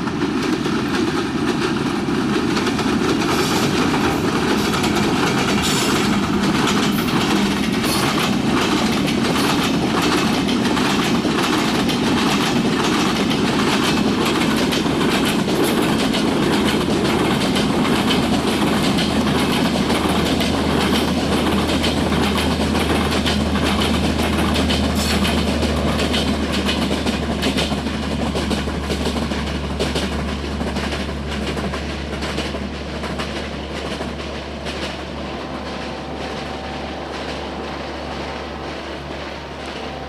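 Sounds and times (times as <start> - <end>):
train coaches rolling past: 0.0 - 40.0
wheels clicking over rail joints: 0.0 - 40.0.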